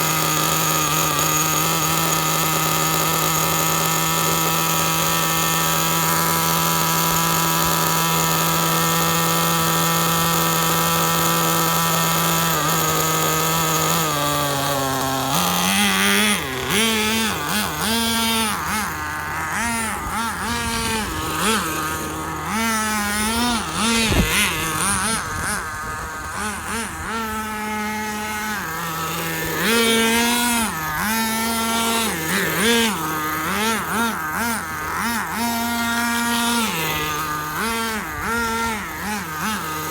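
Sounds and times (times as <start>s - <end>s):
nitro engine idling and revving: 0.0s - 39.9s.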